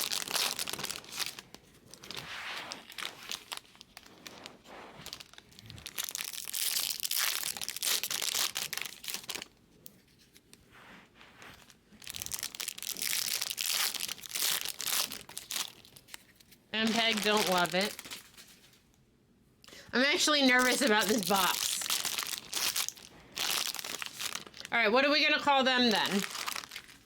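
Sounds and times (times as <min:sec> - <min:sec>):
packaging crinkling and tearing: 0:00.0 - 0:10.6, 0:11.5 - 0:18.8, 0:20.5 - 0:24.8, 0:25.7 - 0:27.0.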